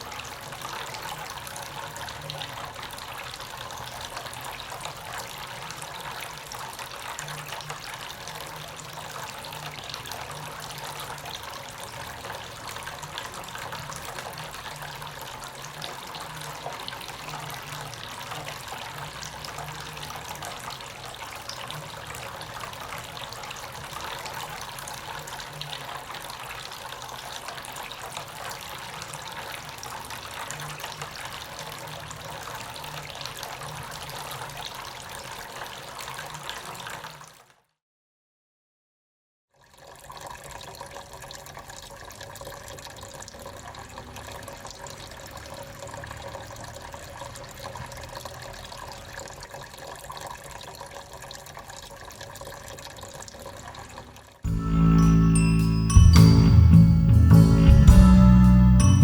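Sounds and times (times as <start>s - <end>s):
fountain water trickling: 0.0s - 37.5s, 39.6s - 56.0s.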